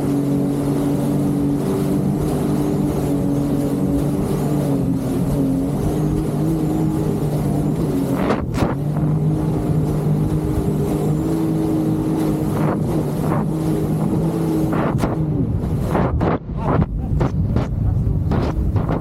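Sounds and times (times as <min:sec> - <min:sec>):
jet ski engine running: 0:00.0 - 0:19.0
wind on microphone: 0:00.0 - 0:19.0.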